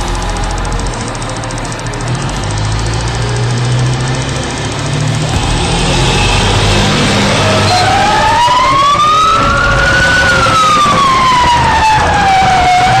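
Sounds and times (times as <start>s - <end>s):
fire engine siren wailing: 0.0s - 13.0s.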